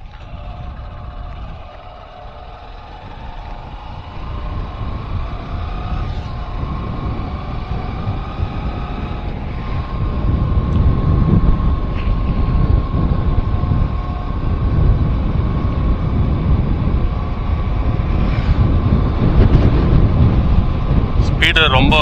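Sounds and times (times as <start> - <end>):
thin steady whine: 0.0 - 22.0
vehicle engine running: 0.0 - 22.0
wind buffeting microphone: 0.0 - 22.0.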